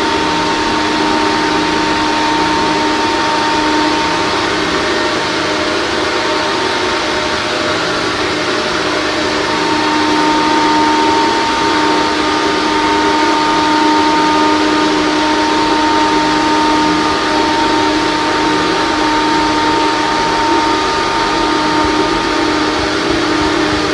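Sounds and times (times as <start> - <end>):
exhaust fan running: 0.0 - 23.9.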